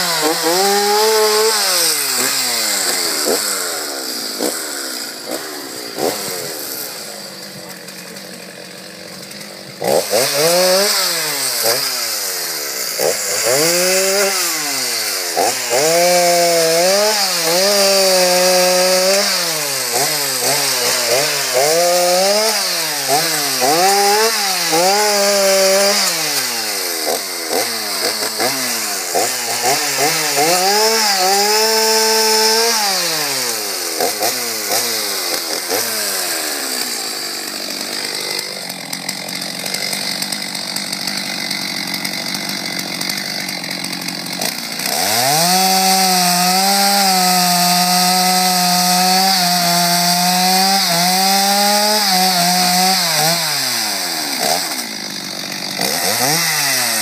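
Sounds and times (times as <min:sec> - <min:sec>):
chainsaw revving while cutting: 0:00.0 - 0:57.0.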